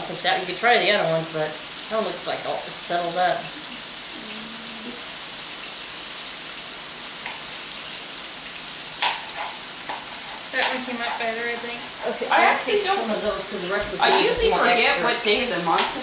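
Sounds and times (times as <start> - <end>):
meat sizzling in a skillet: 0.0 - 16.0.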